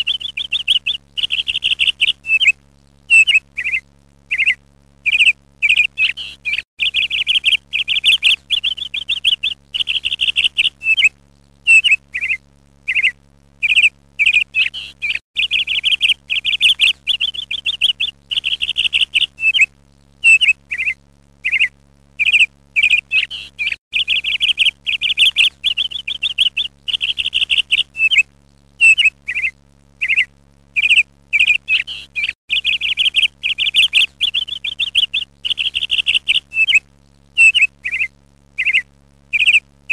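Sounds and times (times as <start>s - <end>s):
ducklings peeping: 0.0s - 11.1s, 11.7s - 36.8s, 37.4s - 39.9s
faint steady low hum: 0.0s - 39.9s.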